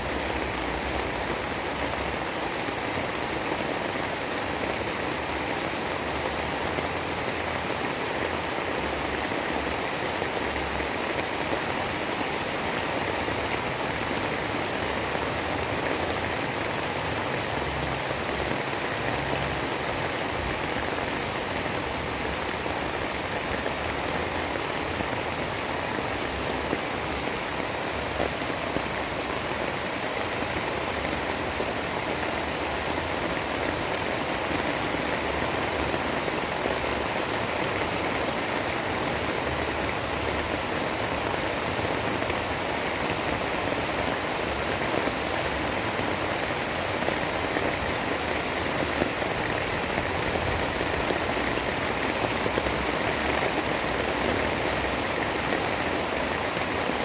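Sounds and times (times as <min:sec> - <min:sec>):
heavy rain storm noise: 0:00.0 - 0:57.0.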